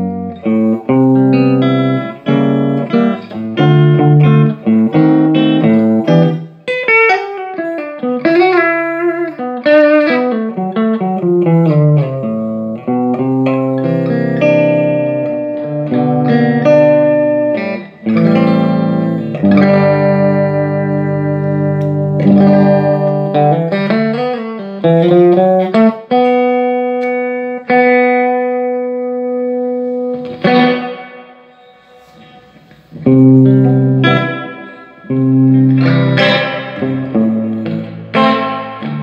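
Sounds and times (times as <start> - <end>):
electric guitar: 0.0 - 39.0.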